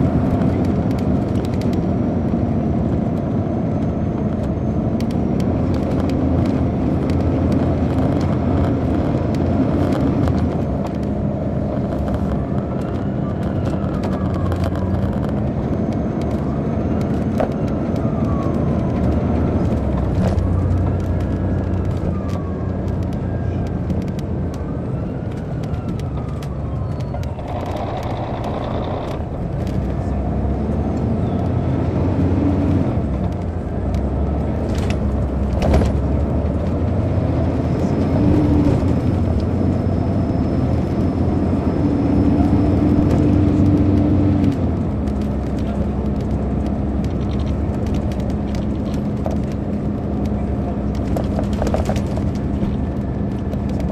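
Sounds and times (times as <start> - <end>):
bus diesel engine drone: 0.0 - 53.9.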